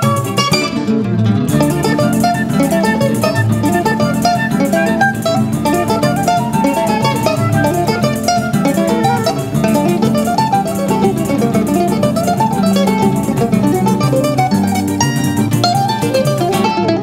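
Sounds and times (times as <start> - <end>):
acoustic guitar and mandolin music: 0.0 - 17.0.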